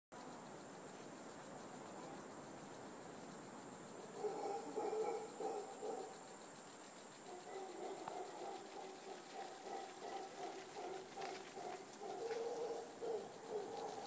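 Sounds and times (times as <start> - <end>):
insect chorus drone: 0.1 - 14.0.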